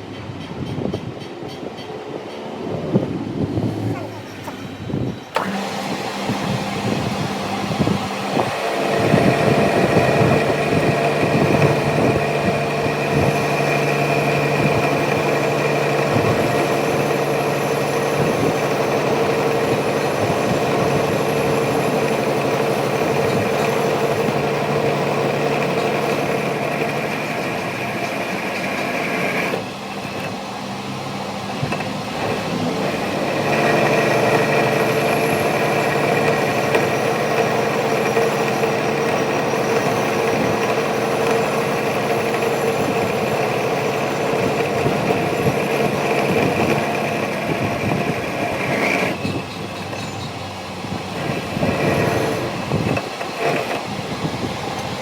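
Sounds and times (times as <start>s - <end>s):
power tool motor whining: 3.6s - 55.0s.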